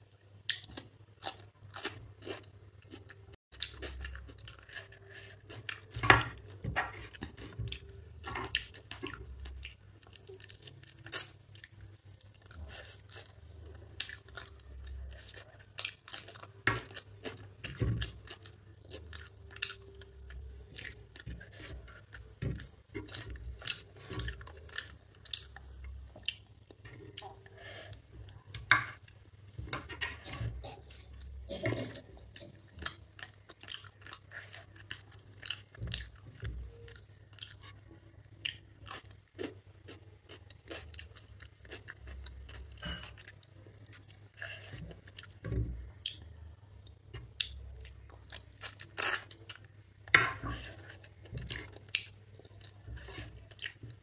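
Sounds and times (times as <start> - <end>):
chewing: 0.4 - 54.0.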